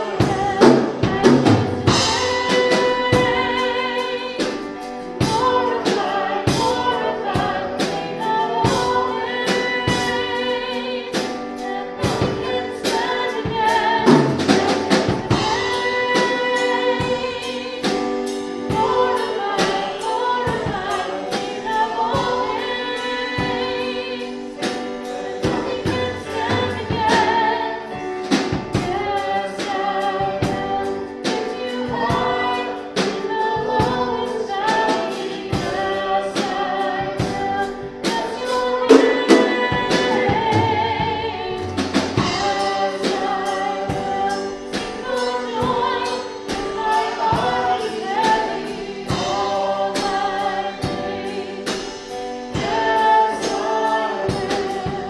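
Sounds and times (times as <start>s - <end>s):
drum kit beat: 0.0s - 55.0s
keyboard: 0.0s - 55.0s
voices singing worship song: 0.0s - 55.0s.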